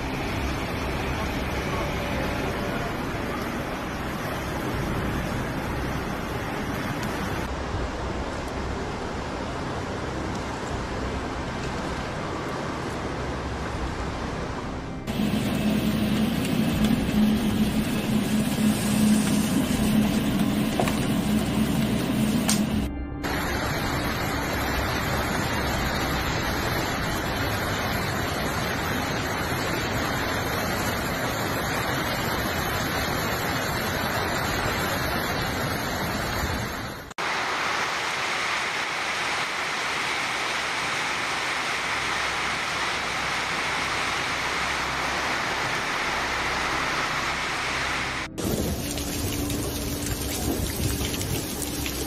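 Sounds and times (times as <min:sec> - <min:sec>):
storm rain and floodwater rushing: 0:00.0 - 0:52.0.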